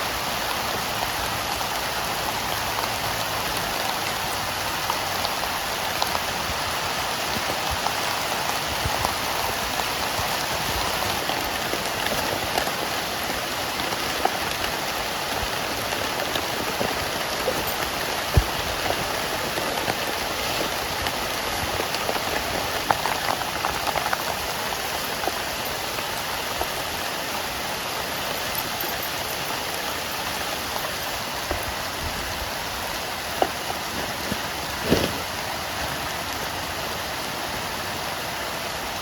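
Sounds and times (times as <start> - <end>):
sharp raindrops striking close: 0.0 - 35.0
heavy rain falling: 0.0 - 39.0.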